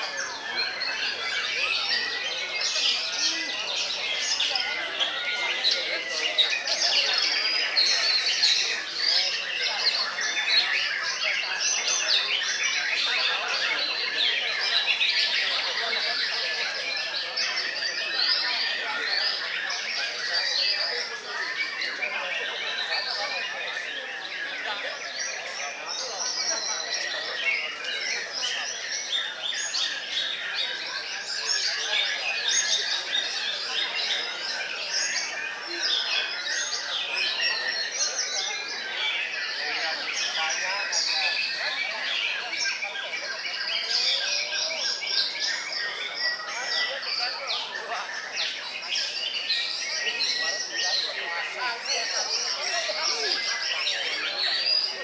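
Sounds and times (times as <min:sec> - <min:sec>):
other birds singing: 0:00.0 - 0:55.0.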